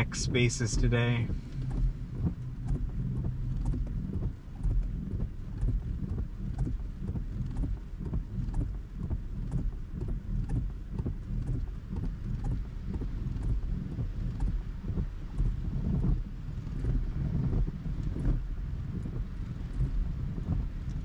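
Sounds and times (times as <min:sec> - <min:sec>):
rain drops ticking on car roof: 0:00.0 - 0:21.0
steady low rumble: 0:00.0 - 0:21.0.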